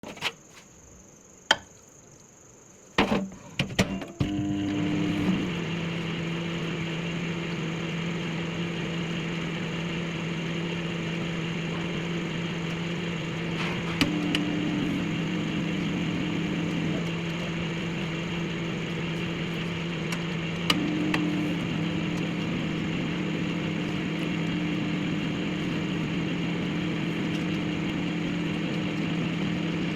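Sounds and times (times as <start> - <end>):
microwave oven humming: 3.8 - 29.9.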